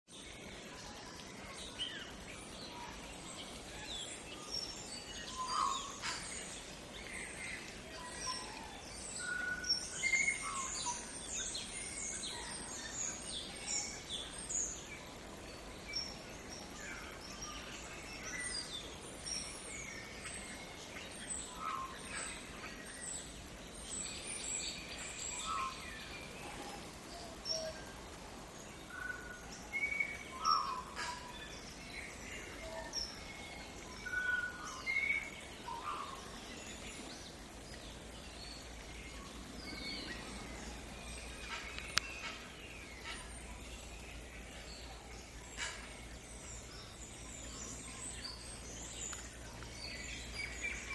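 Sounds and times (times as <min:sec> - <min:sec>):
faint background hiss: 0:00.1 - 0:50.9.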